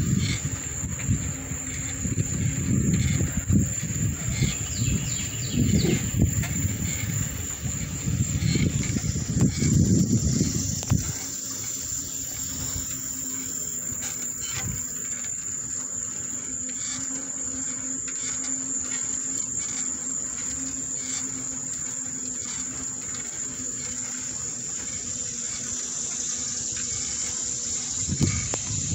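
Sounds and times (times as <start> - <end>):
bicycle tyre and wind noise: 0.0 - 28.9
faint rattles: 0.0 - 28.9.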